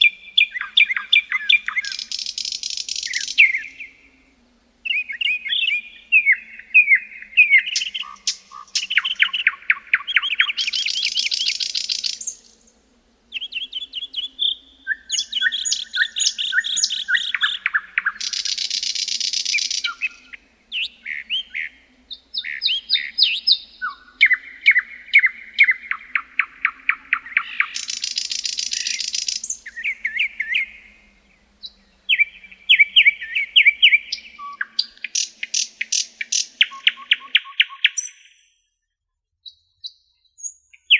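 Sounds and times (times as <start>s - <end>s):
songbird chirps and trills: 0.0s - 38.6s.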